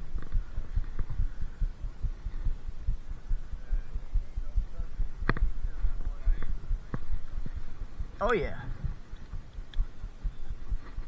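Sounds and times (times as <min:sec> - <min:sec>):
microphone wind buffeting: 0:00.0 - 0:11.0.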